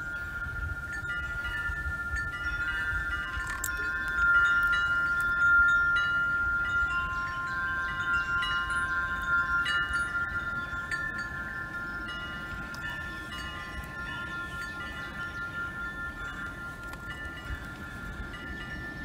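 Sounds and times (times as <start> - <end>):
wind chimes ringing: 0.0 - 19.0.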